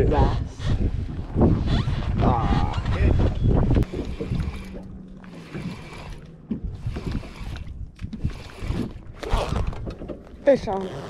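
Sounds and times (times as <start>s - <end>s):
water around a boat: 0.0s - 11.0s
wind: 0.0s - 11.0s
low hum: 0.6s - 10.4s.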